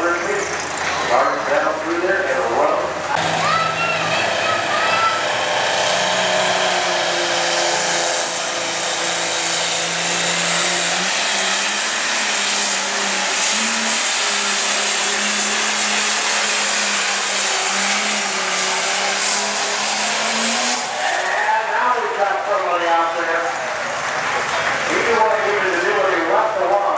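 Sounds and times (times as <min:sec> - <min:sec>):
diesel engine running under load: 0:00.0 - 0:26.9.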